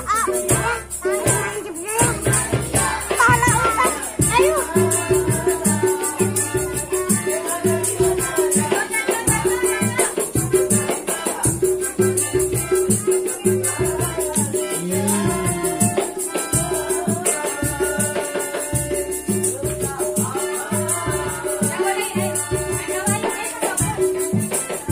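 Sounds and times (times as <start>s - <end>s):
melodica melody: 0.0s - 20.0s
percussion beat: 0.0s - 24.9s.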